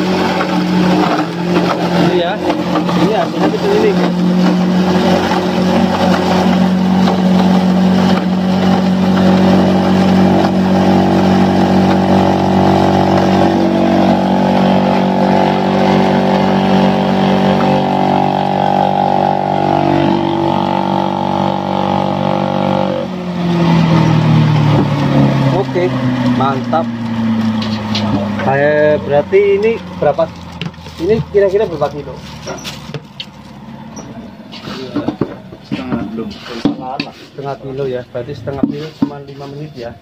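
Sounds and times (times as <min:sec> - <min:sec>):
electric shredder humming whine: 0:00.0 - 0:34.5.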